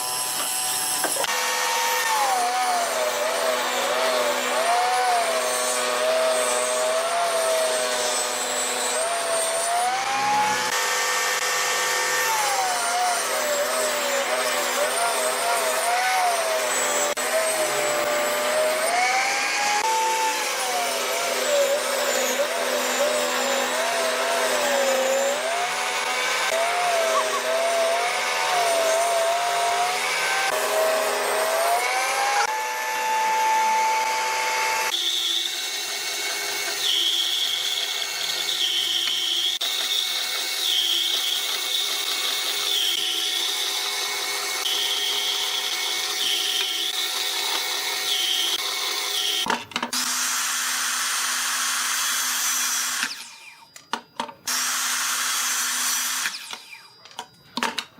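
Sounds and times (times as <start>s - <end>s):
power tool motor whining: 0.0s - 57.7s.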